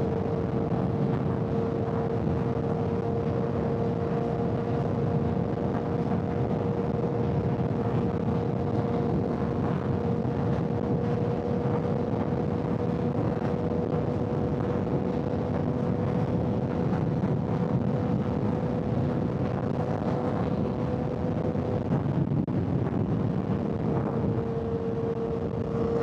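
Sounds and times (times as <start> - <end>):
motorcycle engine cruising: 0.0 - 26.0
wind and road noise: 0.0 - 26.0.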